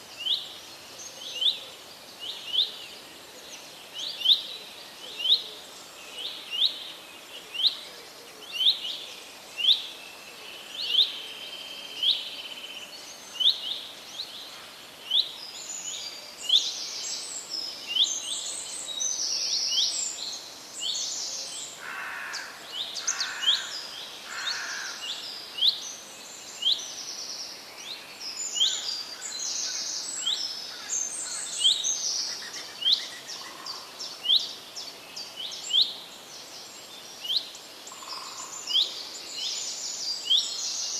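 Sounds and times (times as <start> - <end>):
soft background hiss: 0.0 - 40.9.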